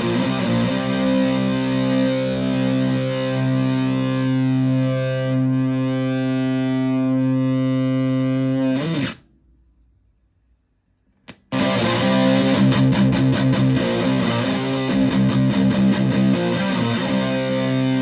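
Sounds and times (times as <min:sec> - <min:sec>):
fuzzed electric guitar chord: 0:00.0 - 0:09.2, 0:11.6 - 0:18.0.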